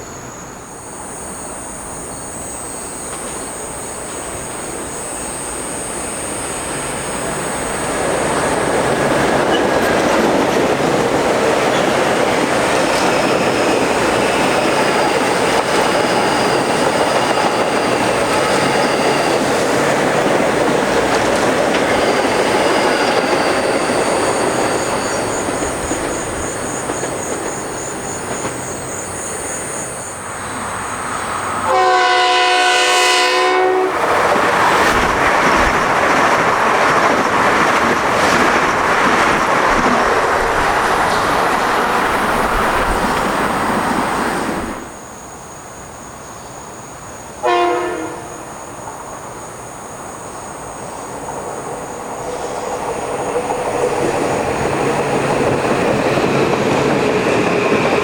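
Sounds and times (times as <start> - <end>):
train wheels rumbling on rails: 1.6 - 45.2, 47.5 - 58.0.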